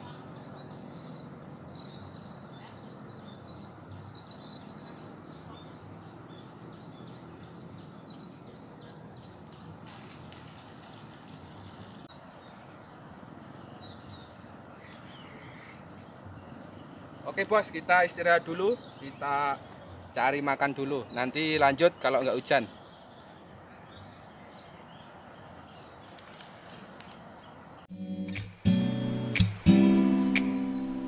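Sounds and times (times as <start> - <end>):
insects chirping: 0.0 - 10.3, 12.0 - 27.9
low outdoor rush: 0.0 - 27.9.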